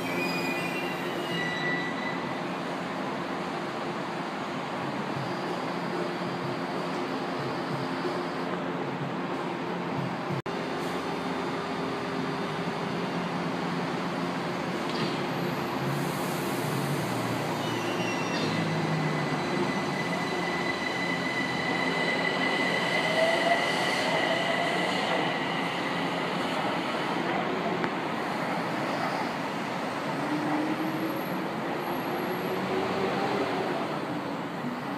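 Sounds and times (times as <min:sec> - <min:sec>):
train wheels on rails: 0:00.0 - 0:34.9.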